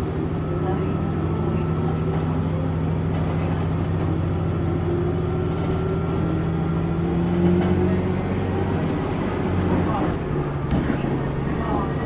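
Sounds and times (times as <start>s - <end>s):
diesel railcar engine drone: 0.0s - 12.0s.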